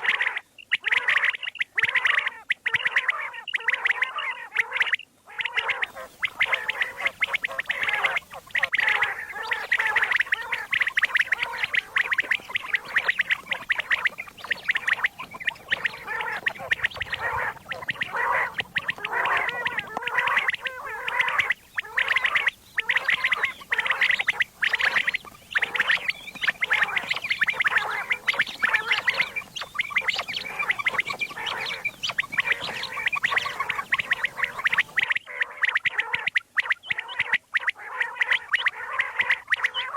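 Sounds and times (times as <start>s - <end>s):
quail calling: 0.0s - 39.9s.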